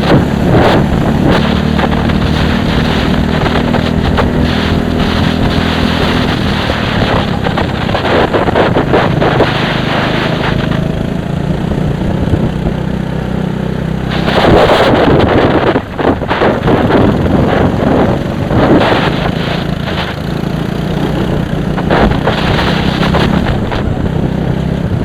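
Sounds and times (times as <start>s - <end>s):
wind buffeting microphone: 0.0s - 13.0s, 13.9s - 25.0s
racing engine running: 0.0s - 25.0s.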